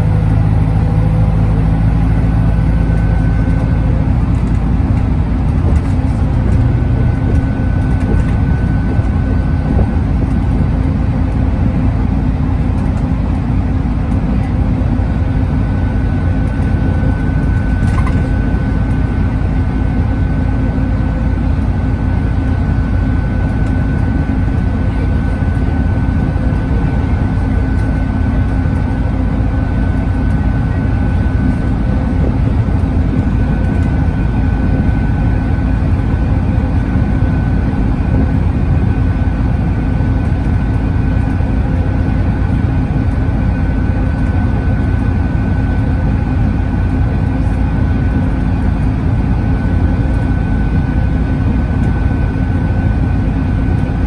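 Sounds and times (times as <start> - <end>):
bus diesel engine drone: 0.0 - 54.0
steady high whine: 0.0 - 54.0
tyre and road roar: 0.0 - 54.0.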